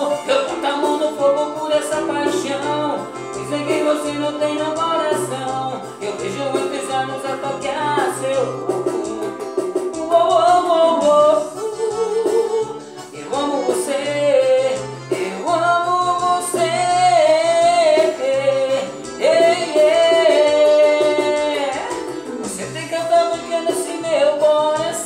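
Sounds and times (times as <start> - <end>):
plucked guitar: 0.0 - 25.0
steady bass: 0.6 - 12.0, 12.6 - 25.0.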